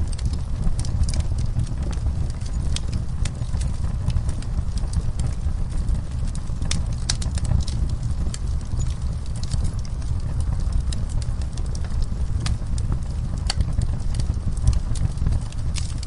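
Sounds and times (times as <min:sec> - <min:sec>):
fire crackles and pops: 0:00.0 - 0:16.0
wood fire roaring: 0:00.0 - 0:16.0.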